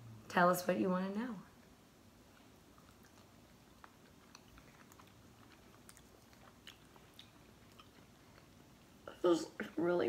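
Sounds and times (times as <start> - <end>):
faint chewing: 1.6 - 10.0.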